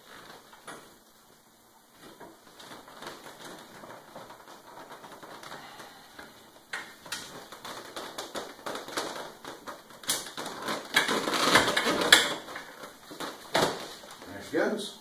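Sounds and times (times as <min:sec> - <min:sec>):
fabric rustling: 0:00.0 - 0:14.6.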